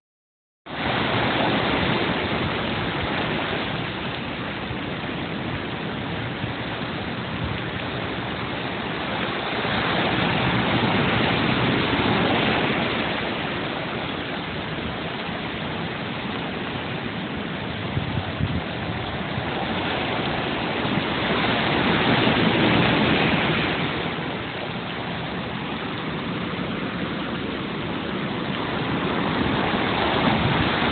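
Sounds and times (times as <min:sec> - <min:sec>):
gusting wind and rain: 0:00.7 - 0:30.9.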